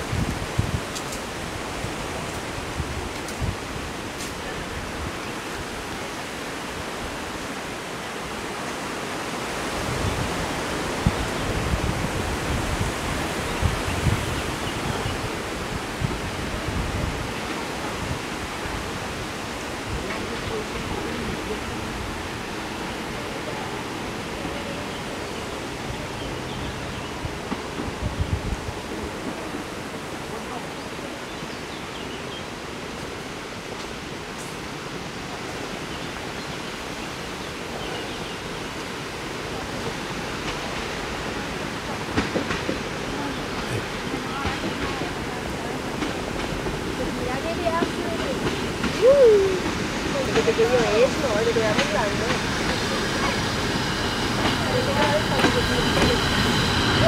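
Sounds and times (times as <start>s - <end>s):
approaching diesel railcar: 0.0s - 57.0s
wind rushing across microphone: 0.0s - 57.0s.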